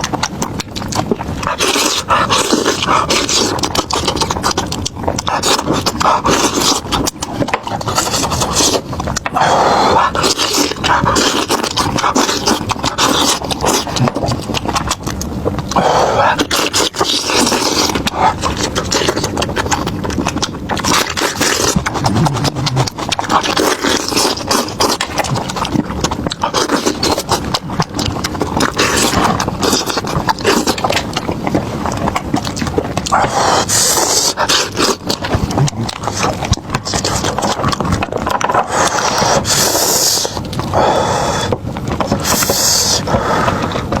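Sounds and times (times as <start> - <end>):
chewing and crunching: 0.0 - 44.0.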